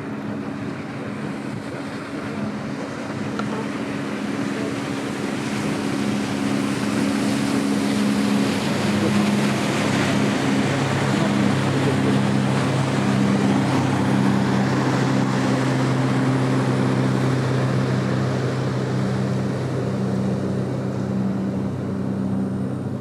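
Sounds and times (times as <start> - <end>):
boat engine droning: 0.0 - 23.0
rushing water: 0.0 - 23.0
wind: 0.0 - 23.0.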